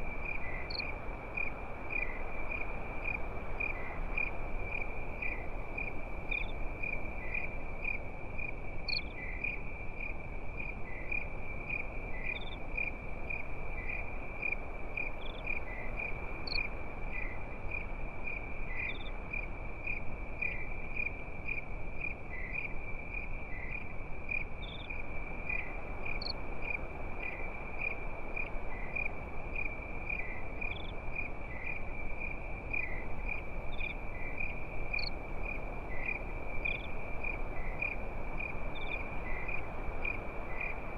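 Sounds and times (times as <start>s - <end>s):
crickets chirping: 0.0s - 40.9s
low background hiss: 0.0s - 40.9s.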